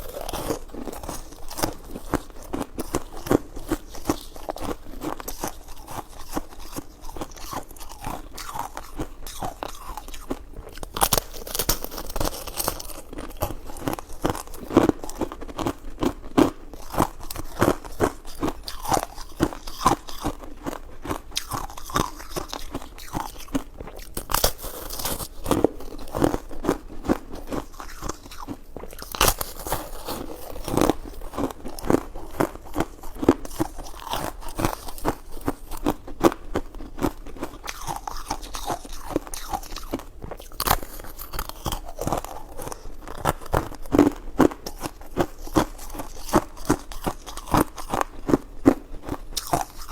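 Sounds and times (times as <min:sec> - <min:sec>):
person chewing soft food: 0:00.0 - 0:49.9.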